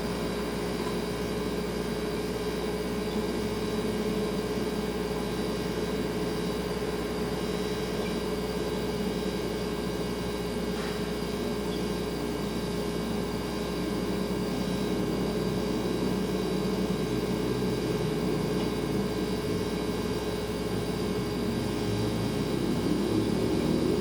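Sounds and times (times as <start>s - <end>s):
refrigerator compressor humming: 0.0s - 24.0s.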